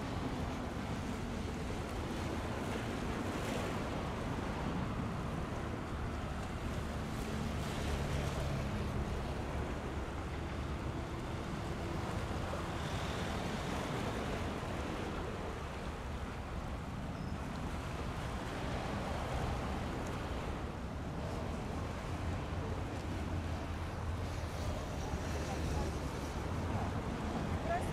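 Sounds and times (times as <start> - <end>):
waves washing against shore: 0.0 - 27.9.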